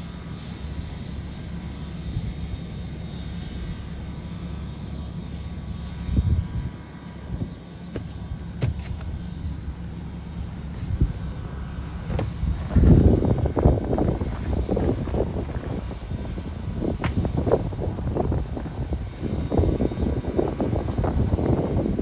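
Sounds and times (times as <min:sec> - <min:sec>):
steam locomotive rumble: 0:00.0 - 0:22.0.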